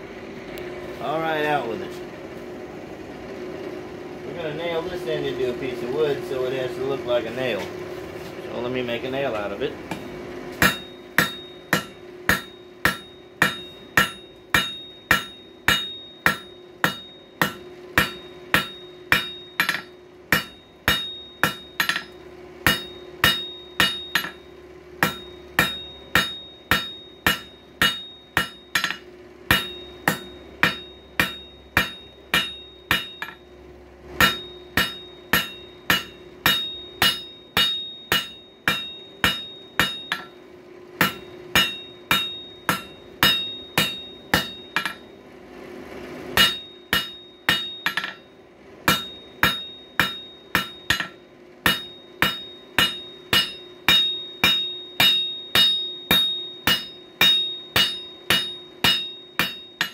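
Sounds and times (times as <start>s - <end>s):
hammer striking steel on anvil: 8.9s - 45.2s, 46.3s - 59.9s.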